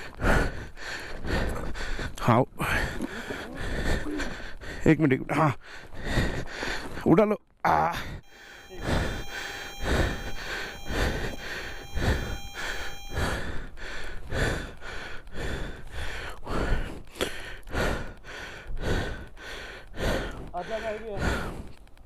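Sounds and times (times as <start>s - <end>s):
man panting heavily: 0.0s - 7.0s, 7.9s - 21.8s.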